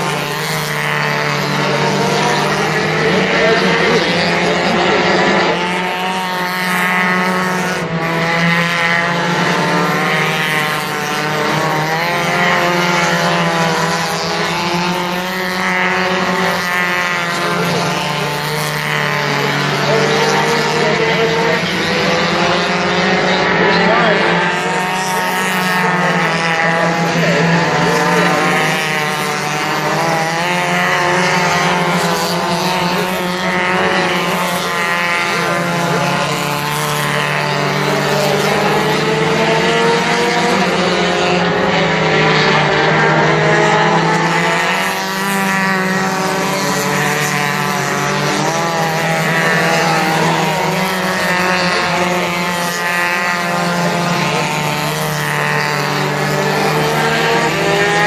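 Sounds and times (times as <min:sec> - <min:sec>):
race car engines passing by: 0:00.0 - 0:58.0.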